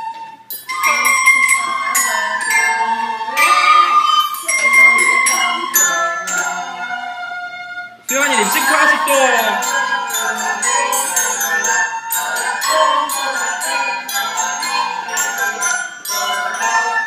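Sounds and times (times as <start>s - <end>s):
children singing: 0.0s - 17.0s
bell-like accompaniment with beat: 0.5s - 6.8s, 8.1s - 17.0s.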